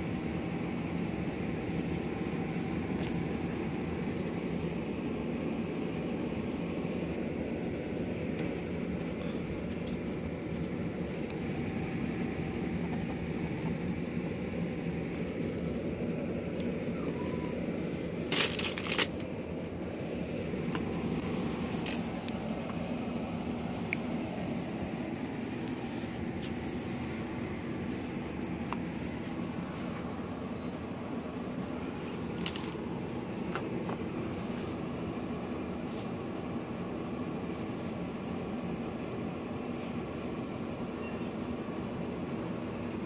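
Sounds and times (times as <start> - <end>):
blankets rustling: 0.0 - 43.0
low machine hum: 0.0 - 43.0.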